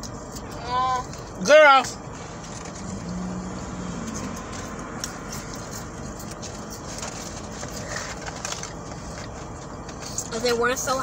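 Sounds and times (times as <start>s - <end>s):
car cabin background noise: 0.0s - 11.0s.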